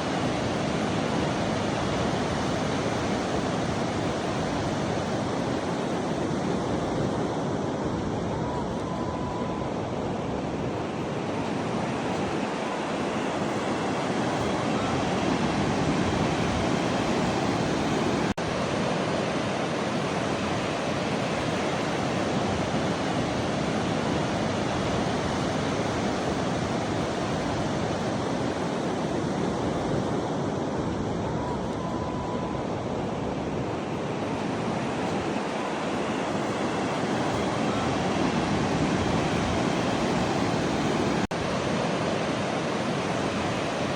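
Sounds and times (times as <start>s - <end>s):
ocean surf rushing: 0.0s - 43.9s
wind: 0.0s - 43.9s.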